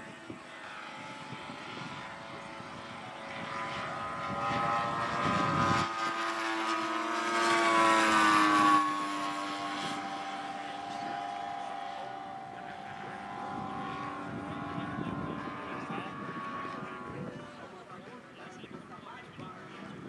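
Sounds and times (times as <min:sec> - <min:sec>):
model planes droning: 0:00.0 - 0:20.0.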